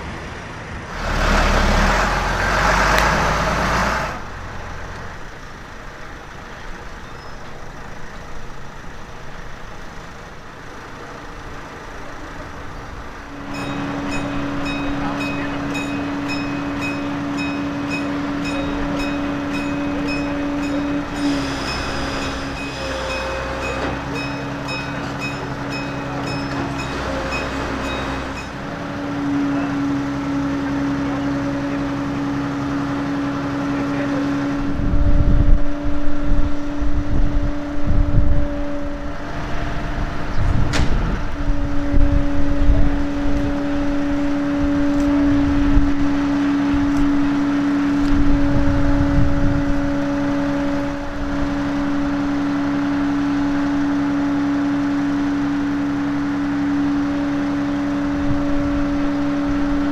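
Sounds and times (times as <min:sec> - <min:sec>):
machine drone: 0:00.0 - 0:59.9.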